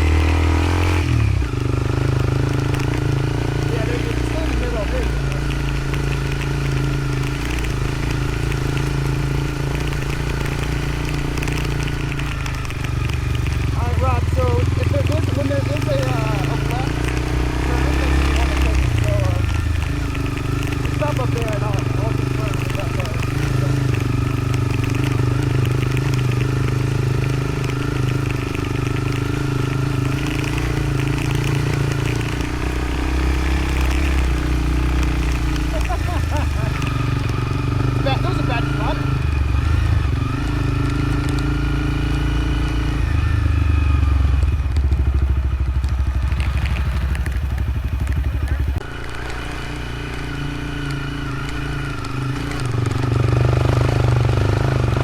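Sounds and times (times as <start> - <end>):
motorcycle engine running: 0.0 - 55.0
light crackling clicks: 1.5 - 13.8, 14.8 - 43.0, 44.3 - 53.9.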